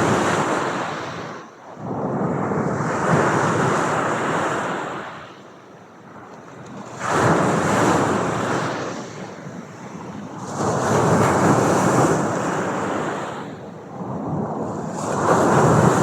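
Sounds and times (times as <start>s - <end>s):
surf washing in: 0.0s - 16.0s.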